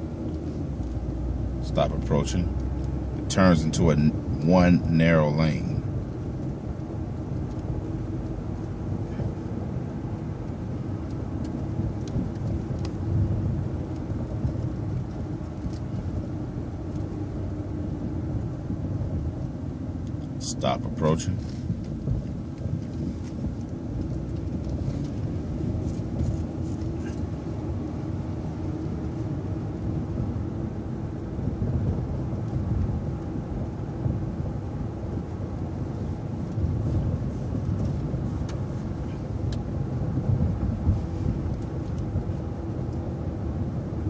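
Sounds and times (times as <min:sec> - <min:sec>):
bus engine and road rumble: 0:00.0 - 0:44.0.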